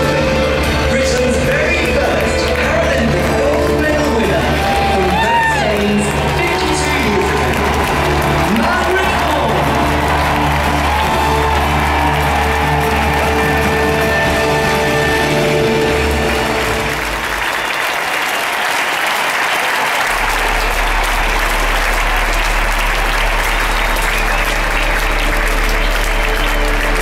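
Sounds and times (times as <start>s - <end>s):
orchestral music: 0.0s - 18.2s, 20.1s - 27.0s
stadium crowd applauding: 0.0s - 27.0s.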